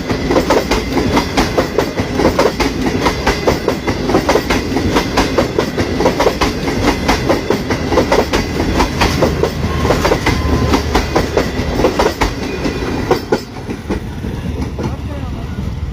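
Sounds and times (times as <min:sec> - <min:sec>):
train wheels clattering: 0:00.0 - 0:15.2
train rumble: 0:00.0 - 0:15.9.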